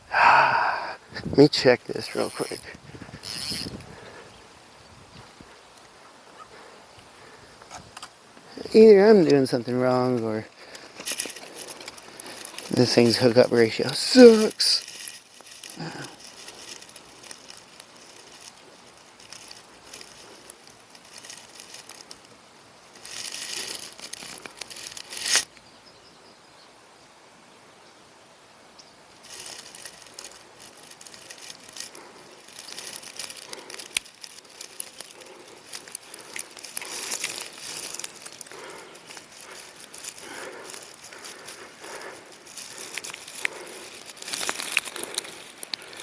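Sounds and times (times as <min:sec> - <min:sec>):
rustling and crinkling handling: 0:01.4 - 0:04.3, 0:05.0 - 0:25.5, 0:29.2 - 0:46.0.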